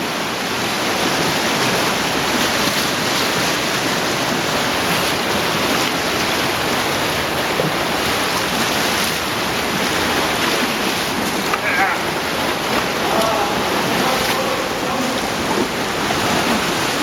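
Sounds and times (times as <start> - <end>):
stream water rushing and splashing: 0.0 - 17.0.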